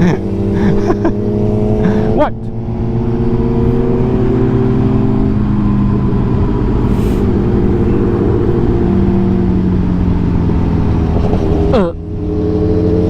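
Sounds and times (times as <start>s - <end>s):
motorcycle engine cruising: 0.0s - 13.0s
wind rumble: 2.4s - 13.0s.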